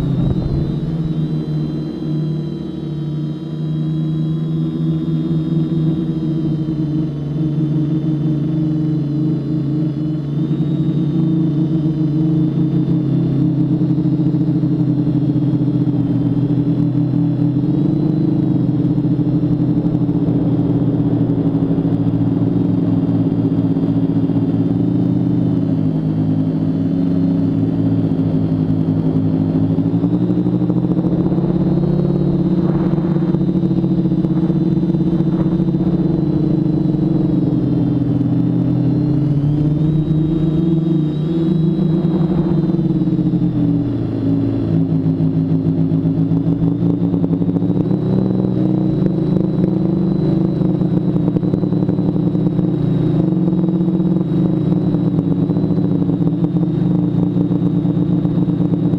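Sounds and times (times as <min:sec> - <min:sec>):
quadcopter motors humming: 0:00.0 - 0:58.9
wind and propeller wash: 0:00.0 - 0:58.9.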